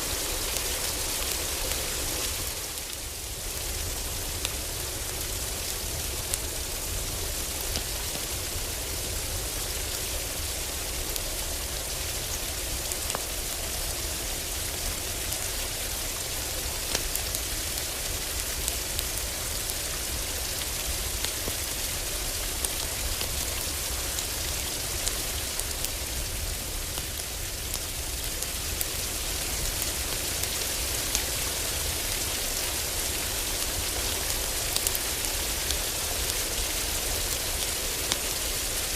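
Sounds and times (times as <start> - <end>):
heavy rain on a roof: 0.0 - 38.9
wood fire crackling: 0.1 - 38.9.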